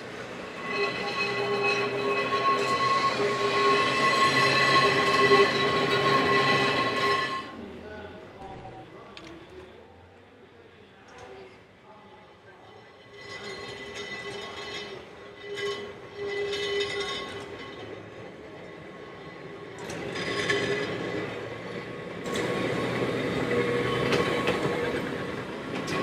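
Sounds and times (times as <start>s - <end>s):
tram wheels on rails: 0.0s - 9.8s, 12.6s - 26.0s.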